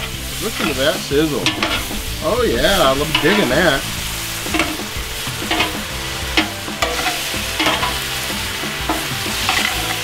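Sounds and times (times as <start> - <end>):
metal tongs scraping pan: 0.0 - 10.0
steak sizzling in a skillet: 0.0 - 10.0.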